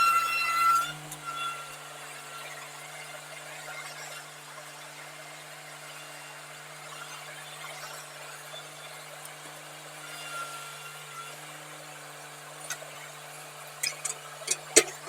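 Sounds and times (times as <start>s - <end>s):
faint high squeal: 0.0s - 14.7s.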